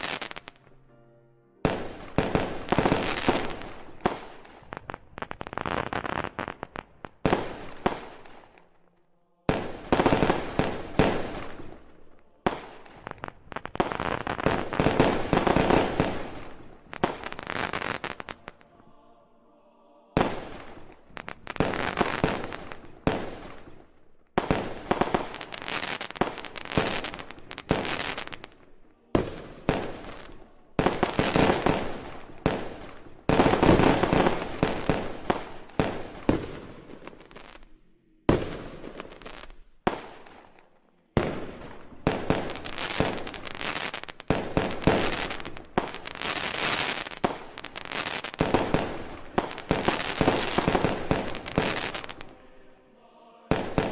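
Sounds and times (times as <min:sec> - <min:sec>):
fireworks bursting with crackling: 0:00.0 - 0:00.7, 0:01.6 - 0:08.8, 0:09.5 - 0:18.7, 0:20.2 - 0:52.6, 0:53.5 - 0:53.9.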